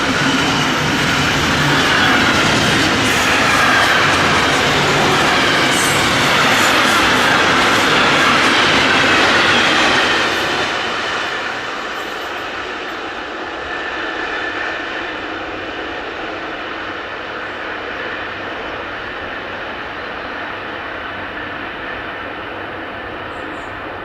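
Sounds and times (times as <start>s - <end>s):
train passing on track: 0.0s - 24.0s.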